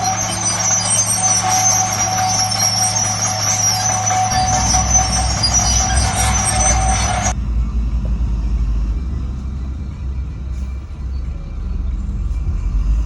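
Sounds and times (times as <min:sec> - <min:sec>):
heavy machinery diesel engine: 0:00.0 - 0:13.0
high whine: 0:00.0 - 0:13.0.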